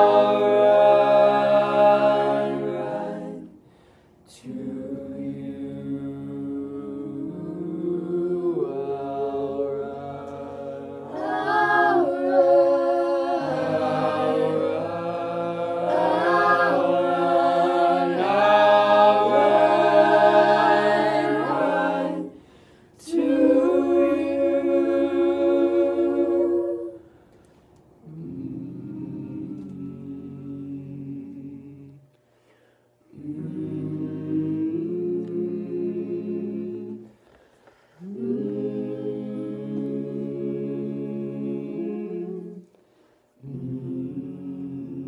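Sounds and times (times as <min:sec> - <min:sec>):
a cappella group singing in harmony: 0:00.0 - 0:45.0.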